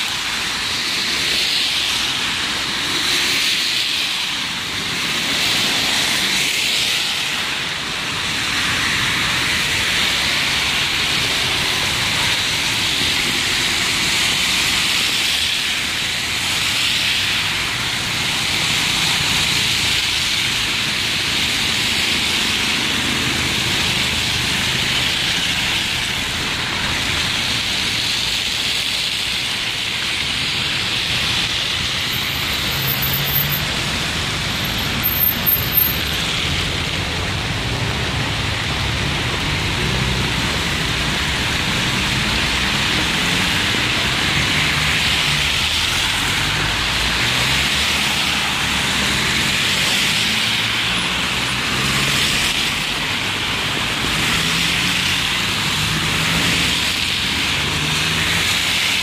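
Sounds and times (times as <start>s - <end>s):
cars passing: 0.0s - 59.0s
light rain: 0.0s - 59.0s
traffic on wet roads: 0.0s - 59.0s.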